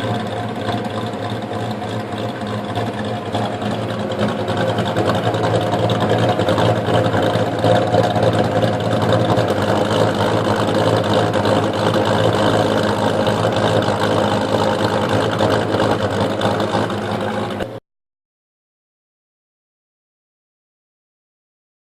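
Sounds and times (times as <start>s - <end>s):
car engine idling: 0.0s - 17.8s.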